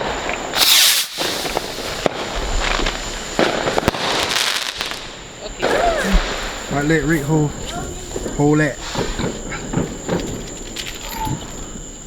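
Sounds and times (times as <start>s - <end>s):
firework burst: 0.0s - 10.5s
fireworks crackling: 0.0s - 12.0s.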